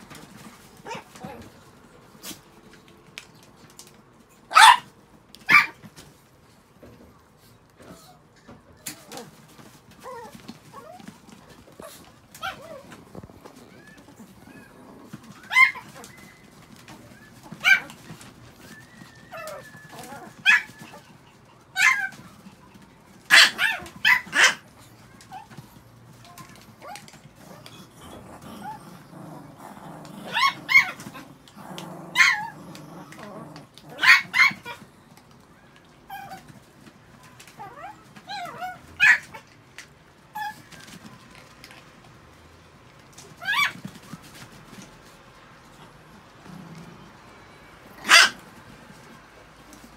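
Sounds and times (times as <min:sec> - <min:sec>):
small dogs barking and yipping: 0:00.1 - 0:02.5, 0:04.3 - 0:06.2, 0:07.8 - 0:39.6, 0:43.1 - 0:44.8, 0:45.6 - 0:49.9.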